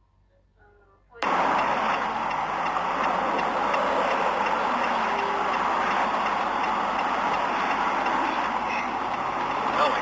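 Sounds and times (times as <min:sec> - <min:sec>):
vehicle road and engine noise: 0:01.2 - 0:10.0.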